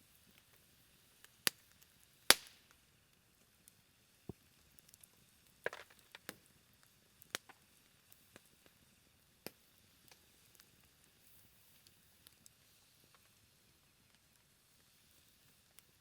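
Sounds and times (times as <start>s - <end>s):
campfire pops and crackles: 0.0s - 16.0s.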